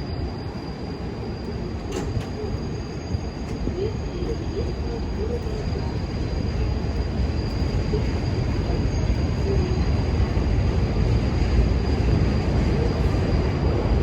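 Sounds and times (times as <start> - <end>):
faint wheel squeal: 0.0 - 14.0
subway train rumbling: 0.0 - 14.0.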